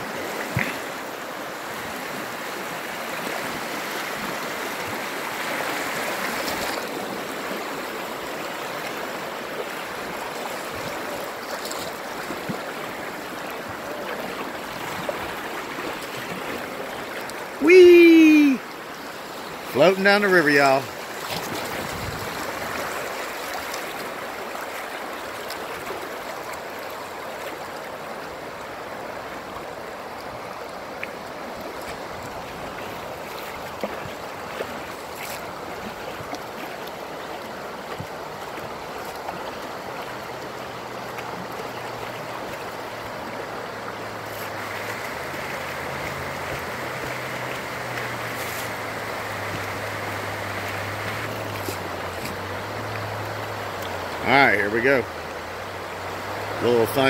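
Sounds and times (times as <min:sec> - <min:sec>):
river water flowing and lapping: 0:00.0 - 0:57.0.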